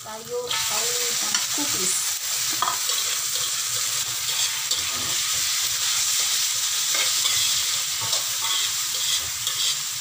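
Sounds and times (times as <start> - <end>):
greens sizzling in hot oil: 0.0 - 10.0.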